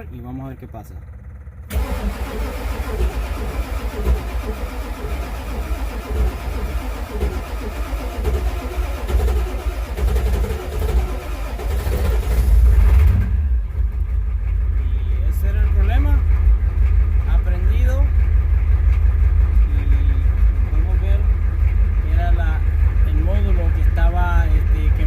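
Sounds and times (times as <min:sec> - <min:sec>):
diesel engine starting and running: 0:00.0 - 0:25.0.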